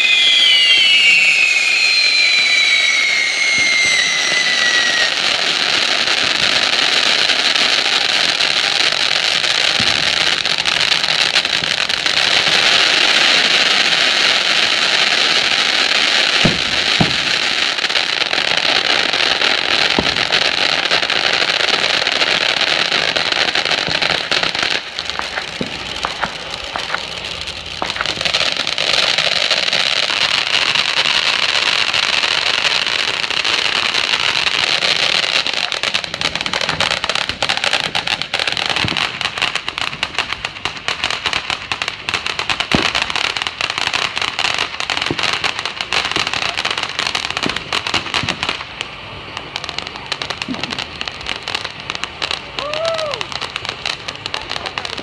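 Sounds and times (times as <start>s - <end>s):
firework crackling: 0.0s - 55.0s
firework fountains hissing: 0.0s - 55.0s.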